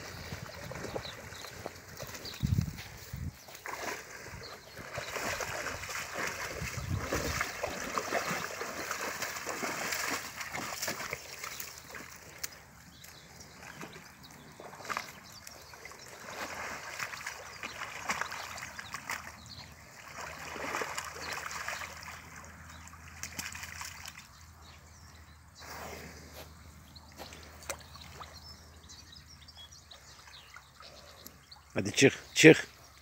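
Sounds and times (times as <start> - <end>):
muddy water splashing and sloshing: 0.0 - 24.8, 27.1 - 28.9.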